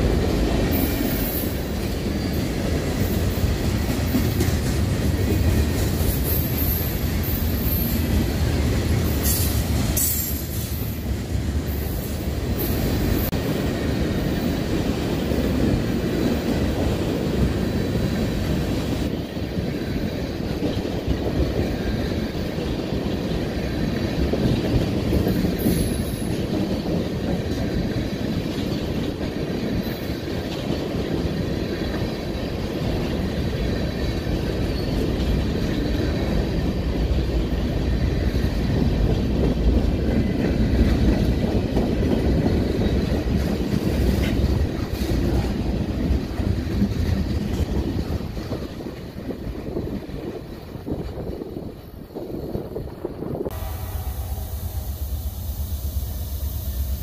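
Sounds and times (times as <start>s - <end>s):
clickety-clack over rail joints: 0.0s - 53.2s
train wheels rumbling on rail: 0.0s - 57.0s.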